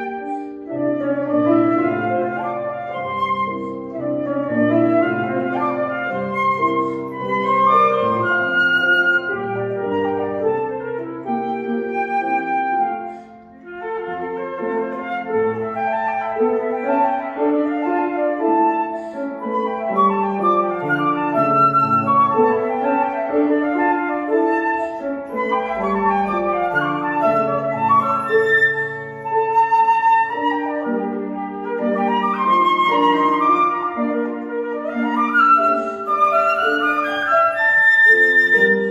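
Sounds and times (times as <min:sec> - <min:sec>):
flute melody: 0:00.0 - 0:38.9
piano accompaniment: 0:00.0 - 0:38.9.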